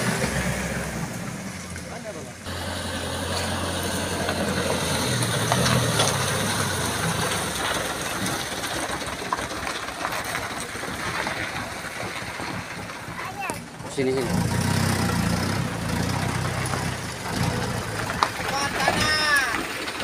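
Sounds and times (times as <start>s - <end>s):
diesel truck engine running: 0.0s - 20.0s
tyres crunching on dirt: 0.0s - 20.0s.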